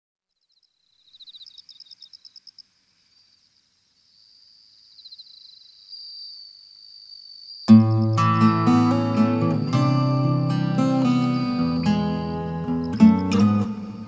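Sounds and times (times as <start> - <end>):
insects trilling: 0.3 - 14.0.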